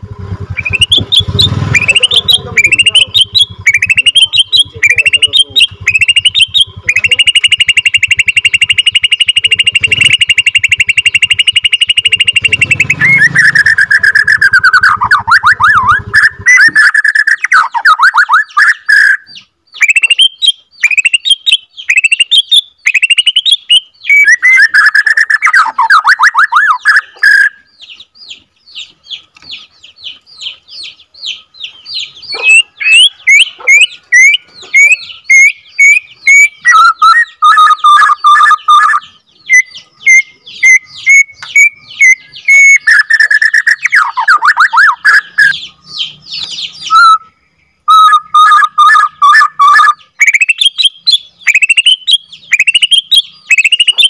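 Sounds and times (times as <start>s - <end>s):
bird singing trills: 0.0s - 54.0s.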